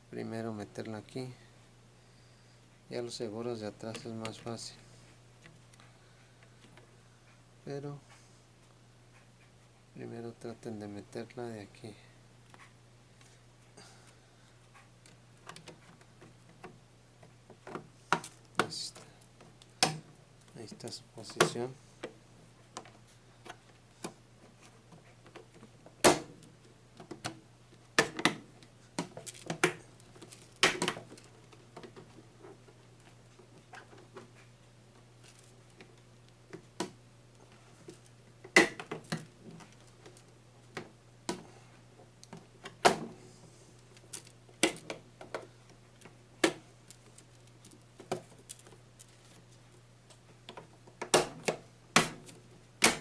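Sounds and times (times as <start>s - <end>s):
faint steady low hum: 0.0s - 53.0s.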